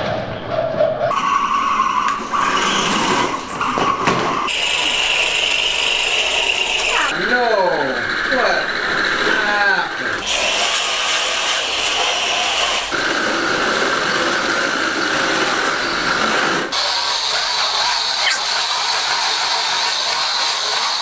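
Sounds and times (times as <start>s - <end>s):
electric motor and gears whining: 1.1s - 21.0s.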